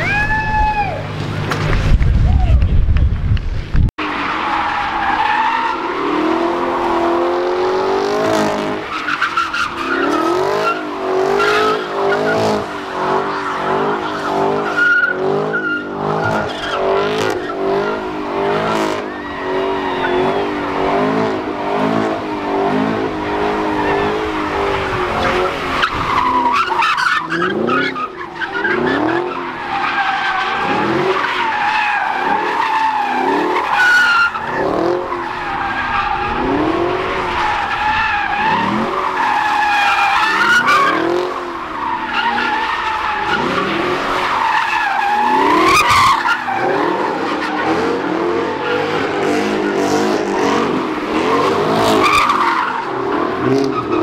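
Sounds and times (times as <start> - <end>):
car engine revving: 4.0 - 54.0.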